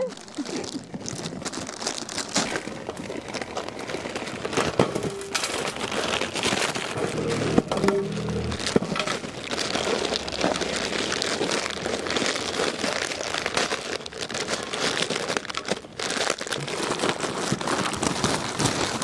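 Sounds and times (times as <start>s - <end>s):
plastic wrappers crinkling: 0.0s - 19.0s.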